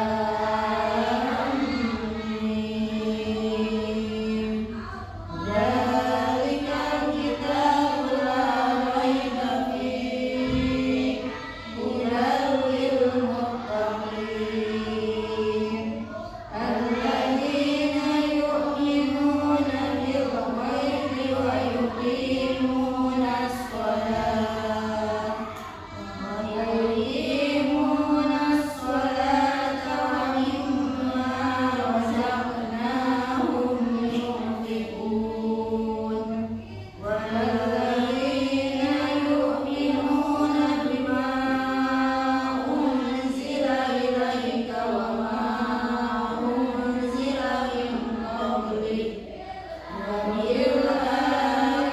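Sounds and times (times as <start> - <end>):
woman chanting melodic recitation: 0.0 - 51.9.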